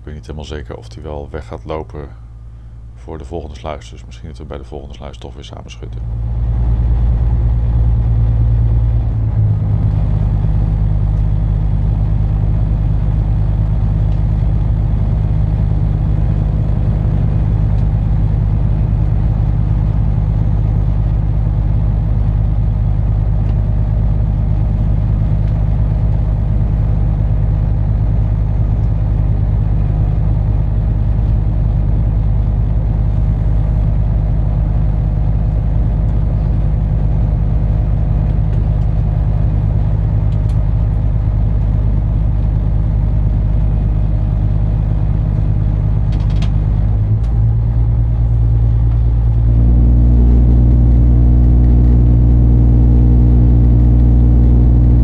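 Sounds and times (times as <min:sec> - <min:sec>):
boat diesel engine drone: 0:00.0 - 0:55.0.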